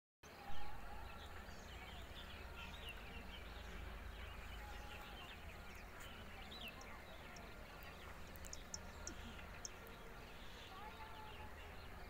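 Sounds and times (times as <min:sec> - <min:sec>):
small birds chirping: 0:00.7 - 0:12.0
steady low rumble: 0:00.8 - 0:10.6.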